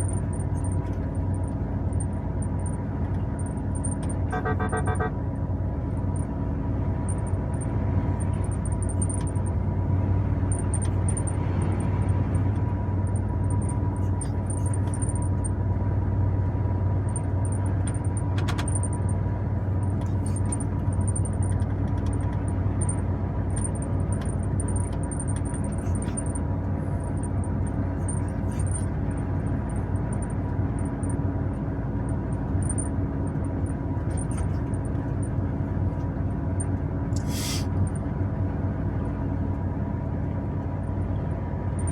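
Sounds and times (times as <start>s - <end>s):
truck engine and road drone: 0.0s - 41.9s.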